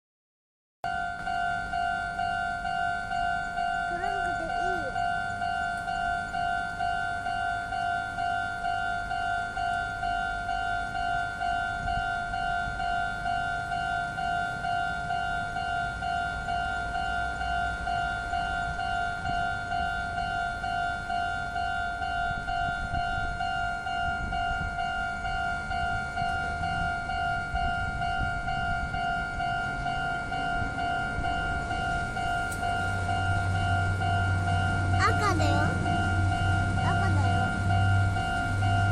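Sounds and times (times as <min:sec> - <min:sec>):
level crossing alarm bell: 0:00.8 - 0:38.9.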